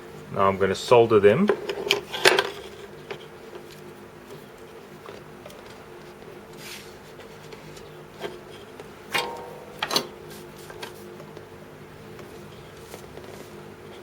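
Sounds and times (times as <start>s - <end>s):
steady low hum: 2.7s - 14.0s.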